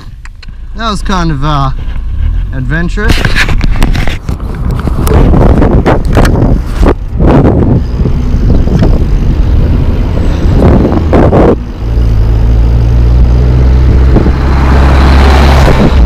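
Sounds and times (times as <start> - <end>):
wind buffeting microphone: 1.7 - 16.0.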